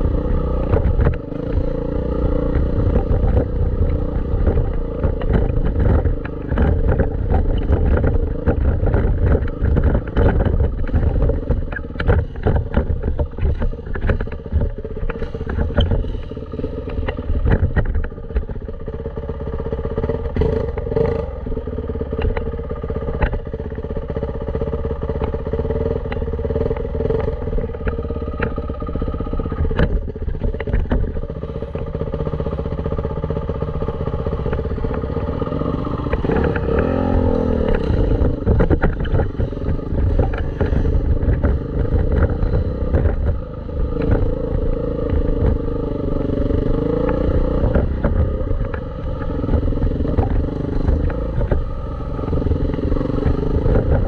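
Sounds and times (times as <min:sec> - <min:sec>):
dirt bike engine running: 0:00.0 - 0:54.0
knocks and rattles: 0:02.5 - 0:18.9, 0:26.1 - 0:33.0, 0:33.8 - 0:54.0.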